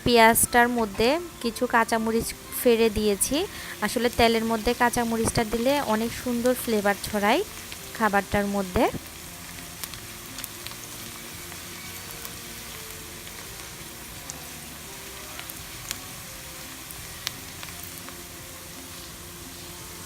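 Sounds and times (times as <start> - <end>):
onions sizzling in hot oil: 0.0 - 20.0
oil popping: 0.3 - 20.0.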